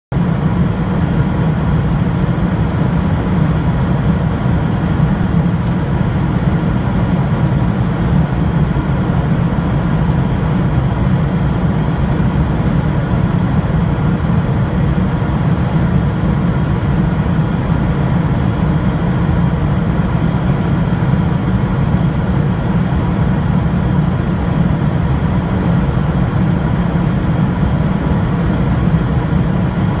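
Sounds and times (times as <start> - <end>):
airplane cabin engine rumble: 0.1 - 30.0.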